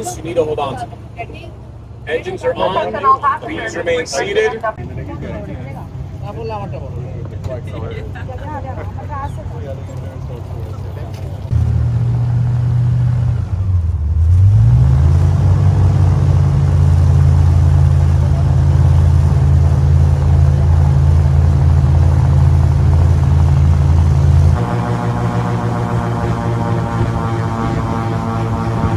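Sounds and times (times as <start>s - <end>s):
airboat engine and propeller: 0.0s - 28.9s.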